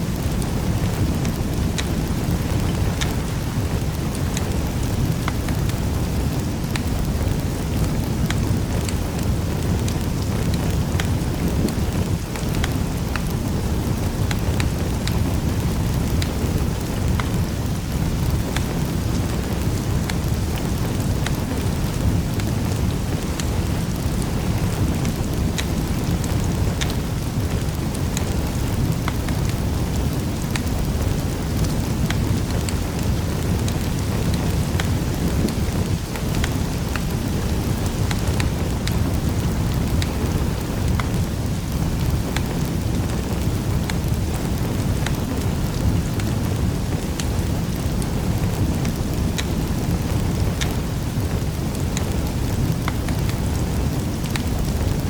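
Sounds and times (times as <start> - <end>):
fire crackling in a fireplace: 0.0 - 55.0.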